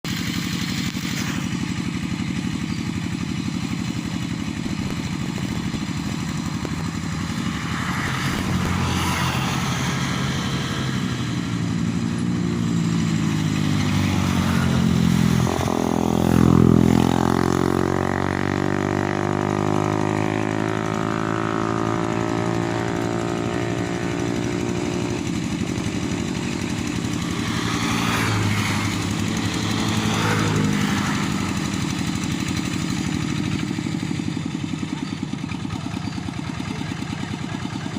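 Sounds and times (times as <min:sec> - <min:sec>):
engine passing by: 0:00.1 - 0:37.9.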